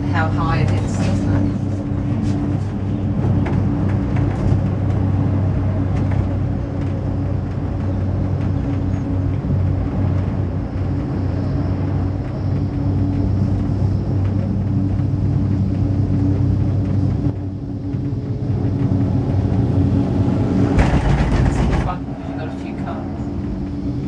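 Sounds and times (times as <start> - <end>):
cable car gondola rumble: 0.0 - 24.0.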